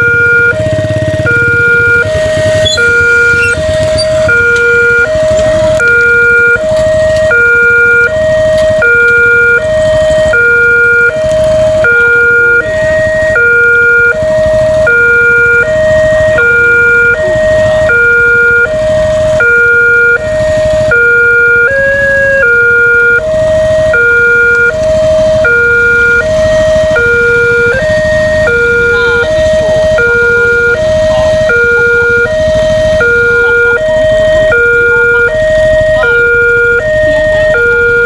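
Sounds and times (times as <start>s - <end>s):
two-tone warning siren: 0.0s - 38.0s.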